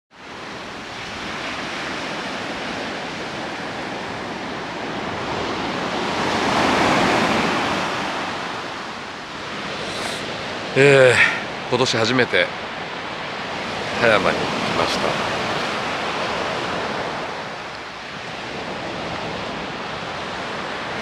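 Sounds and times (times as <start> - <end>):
sea waves breaking on beach: 0.2 - 21.0.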